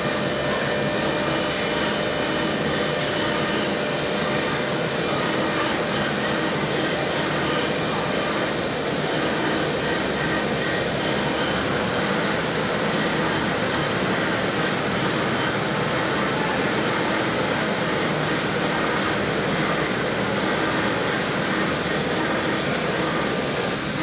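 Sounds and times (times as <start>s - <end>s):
dust extraction vacuum: 0.0s - 24.0s
router spindle milling foam: 0.0s - 24.0s.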